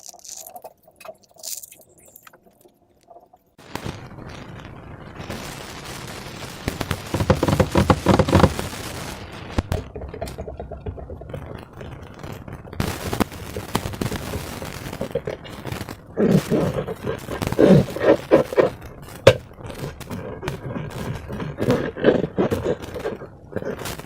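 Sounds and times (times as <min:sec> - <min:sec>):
slime crackling and squelching: 0:00.0 - 0:04.4, 0:06.6 - 0:24.0.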